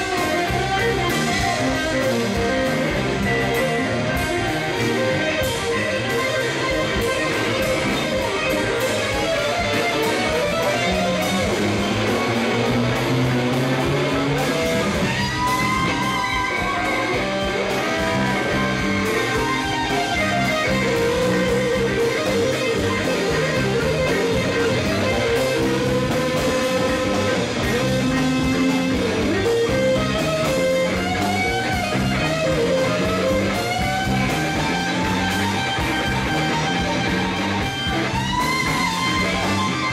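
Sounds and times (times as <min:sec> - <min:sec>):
lead guitar bending long notes: 0:00.0 - 0:39.9
rock band jamming: 0:00.0 - 0:39.9.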